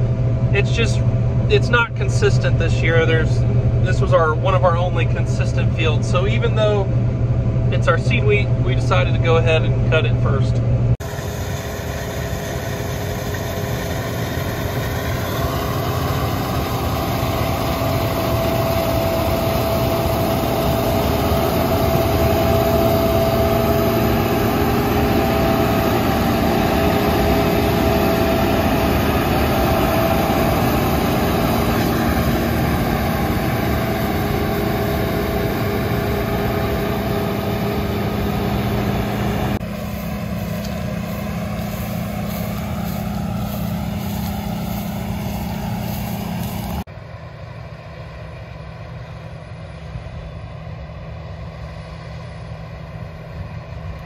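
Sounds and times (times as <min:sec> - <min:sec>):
diesel farm machine running: 0:00.0 - 0:54.0
steady machine whine: 0:00.0 - 0:54.0.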